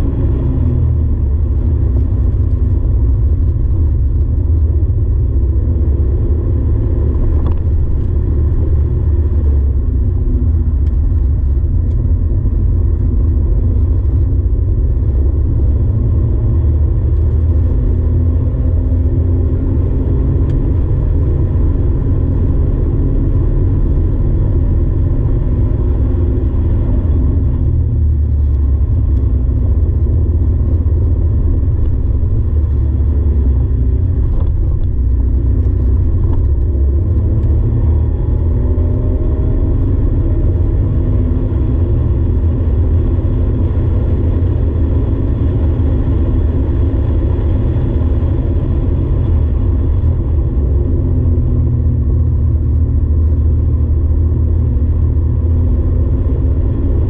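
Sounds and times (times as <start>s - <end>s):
car engine at speed: 0.0s - 57.0s.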